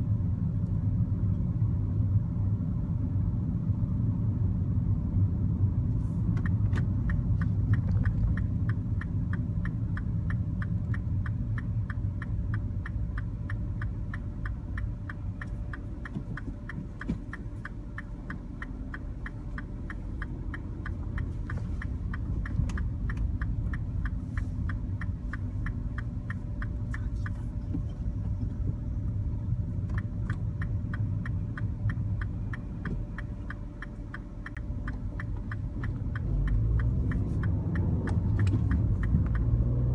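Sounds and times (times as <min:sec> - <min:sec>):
engine and road rumble: 0:00.0 - 0:39.9
turn signal indicator ticking: 0:06.2 - 0:39.9.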